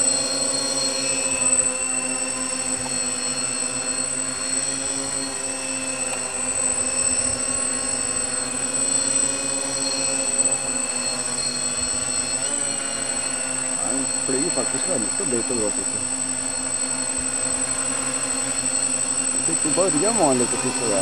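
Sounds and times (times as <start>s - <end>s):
high motor whine: 0.0s - 21.0s
quadcopter drone hovering: 0.0s - 21.0s.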